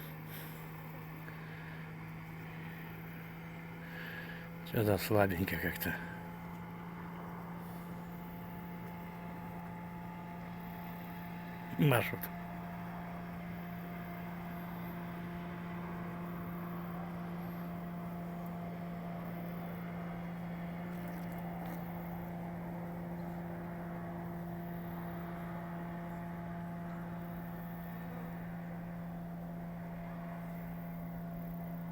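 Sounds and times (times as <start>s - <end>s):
steady machine hum: 0.0s - 31.9s.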